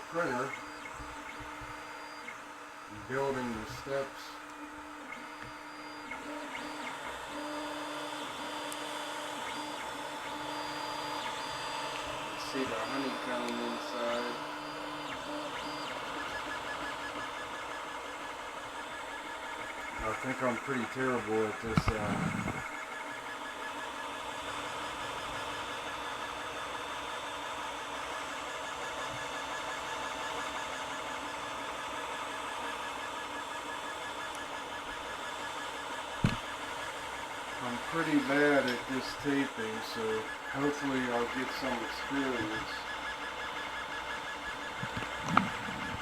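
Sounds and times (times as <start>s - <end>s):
printer stepper motors whining: 0.0s - 46.0s.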